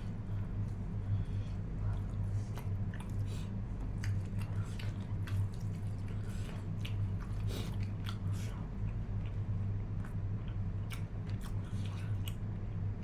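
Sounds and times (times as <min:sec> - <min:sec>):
person chewing wetly: 0:00.0 - 0:12.5
steady low hum: 0:00.0 - 0:13.0.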